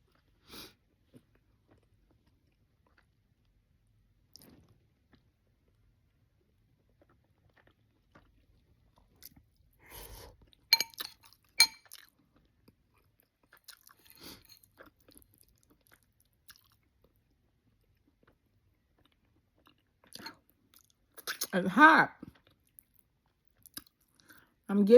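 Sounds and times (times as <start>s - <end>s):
chewing and smacking: 0.9s - 3.6s, 4.2s - 9.6s, 10.4s - 21.5s, 22.2s - 24.5s.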